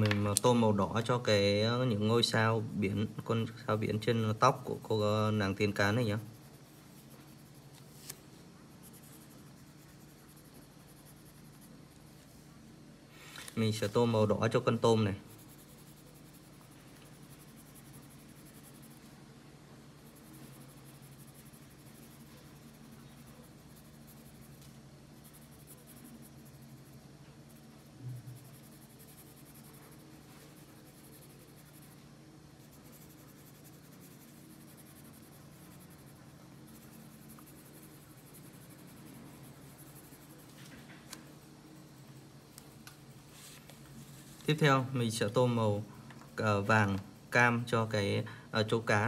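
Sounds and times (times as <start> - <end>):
low steady hum: 0.0 - 49.0
pencil scratching on paper: 2.9 - 12.6, 13.4 - 19.2, 20.0 - 45.7.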